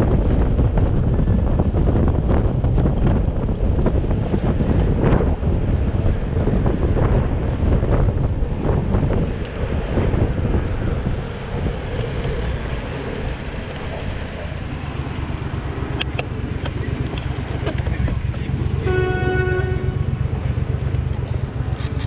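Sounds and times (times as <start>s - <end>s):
road and traffic noise: 0.0s - 22.0s
wind rumbling on microphone: 0.0s - 22.0s.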